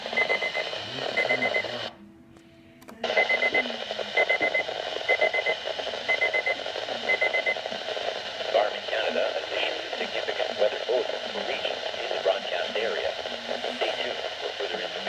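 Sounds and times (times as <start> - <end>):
radio hiss: 0.0 - 2.0, 3.0 - 15.0.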